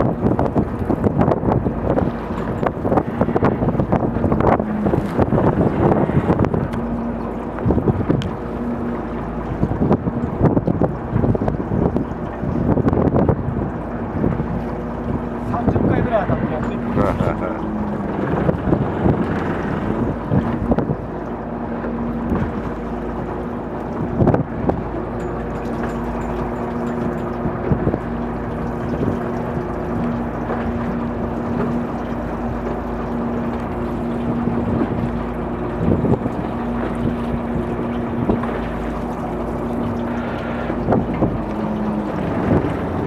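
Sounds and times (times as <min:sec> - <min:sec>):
boat engine idling: 0:00.0 - 0:43.0
wind on microphone: 0:00.0 - 0:43.0.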